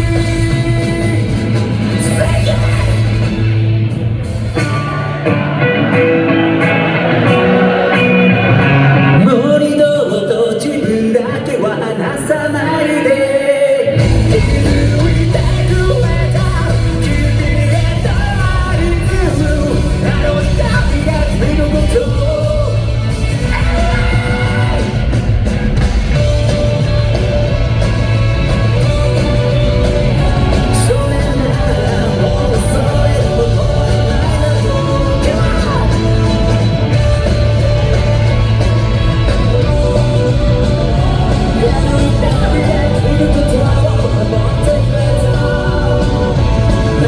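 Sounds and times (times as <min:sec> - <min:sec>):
lead singer singing: 0:00.0 - 0:03.5, 0:04.6 - 0:47.0
live rock band playing: 0:00.0 - 0:47.0.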